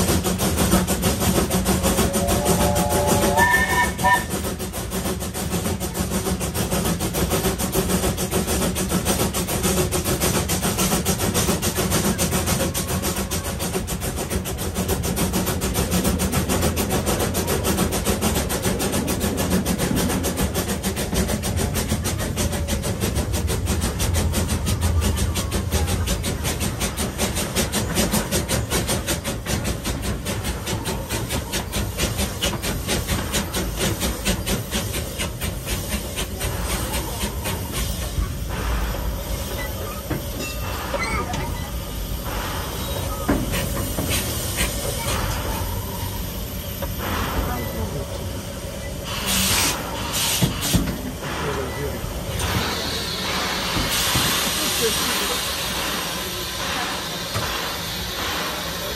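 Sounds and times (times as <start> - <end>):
steam locomotive chuffing: 0.0 - 58.9
wheels rumbling on rails: 0.0 - 58.9.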